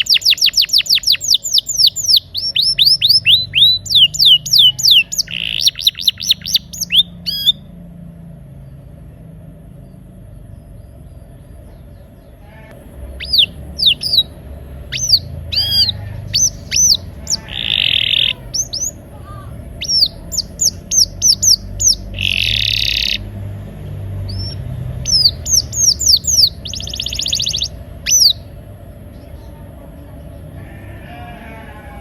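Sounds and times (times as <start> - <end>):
canary singing: 0.0 - 7.9, 11.9 - 32.0
low steady hum: 0.0 - 32.0.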